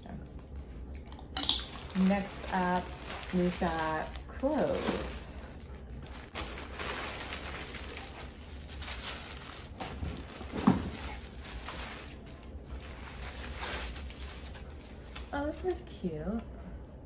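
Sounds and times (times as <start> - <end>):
plastic packaging crinkling: 0.3 - 15.3.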